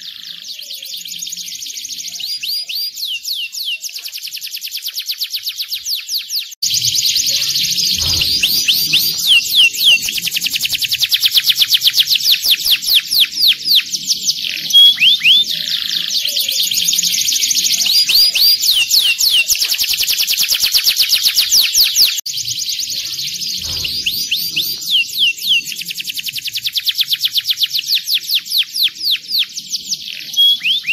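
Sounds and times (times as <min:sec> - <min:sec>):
slurred bird whistles: 0:00.0 - 0:22.2, 0:22.8 - 0:30.9
canary singing trills: 0:00.0 - 0:30.9.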